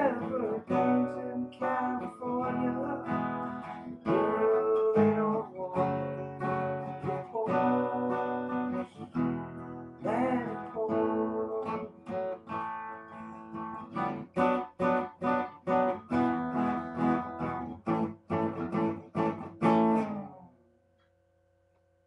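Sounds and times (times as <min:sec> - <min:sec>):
guitar strumming: 0:00.0 - 0:20.6.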